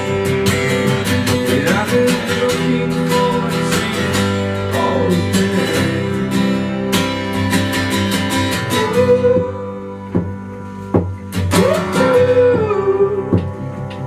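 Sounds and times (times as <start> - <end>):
acoustic guitar strumming: 0.0 - 14.0
bass line: 0.0 - 14.0.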